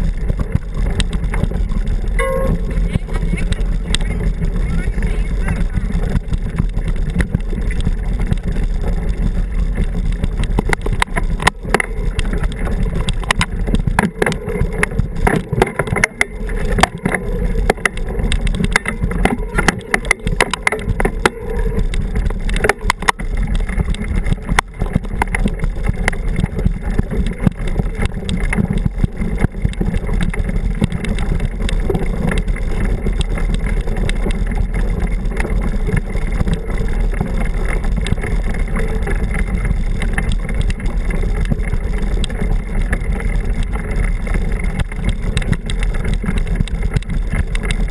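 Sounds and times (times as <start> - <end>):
bike tyres rumbling on gravel: 0.0 - 47.9.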